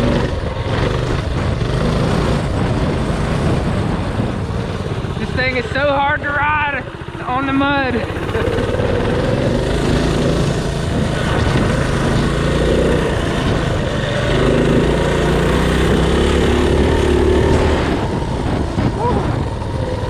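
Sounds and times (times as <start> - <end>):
small engine running hard: 0.0 - 20.0.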